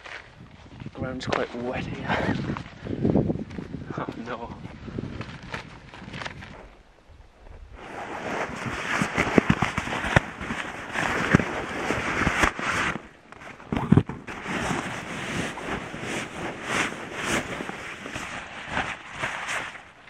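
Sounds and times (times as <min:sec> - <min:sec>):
tent fabric rustling: 0:00.0 - 0:06.8, 0:07.8 - 0:20.0.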